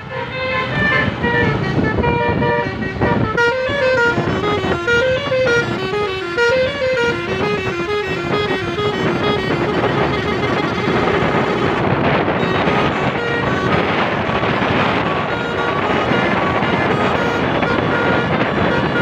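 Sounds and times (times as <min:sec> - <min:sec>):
vehicle road noise: 0:00.0 - 0:19.0
wind buffeting microphone: 0:00.0 - 0:19.0
multi-tone musical horn: 0:00.1 - 0:19.0.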